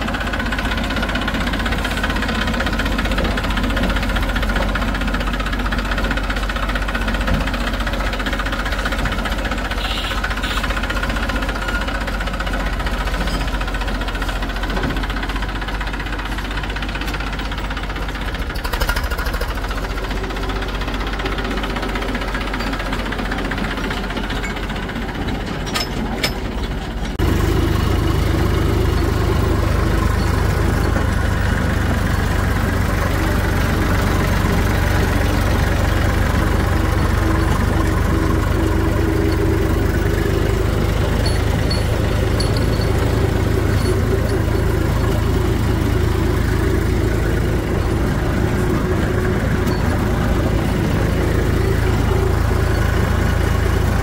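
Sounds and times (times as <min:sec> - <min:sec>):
tractor diesel engine: 0:00.0 - 0:54.0.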